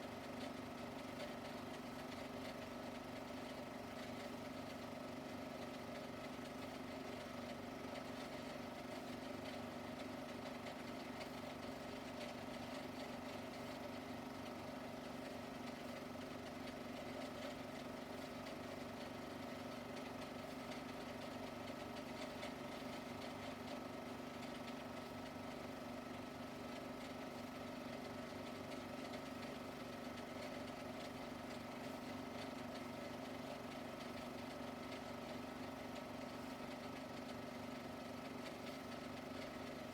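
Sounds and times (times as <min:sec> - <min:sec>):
faint machine hum: 0:00.0 - 0:39.9.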